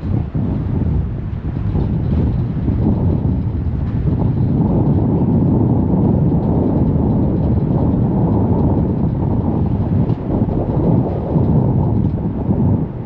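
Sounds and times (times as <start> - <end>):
ferry moving over choppy water: 0.0 - 13.0
wind buffeting microphone: 0.0 - 13.0.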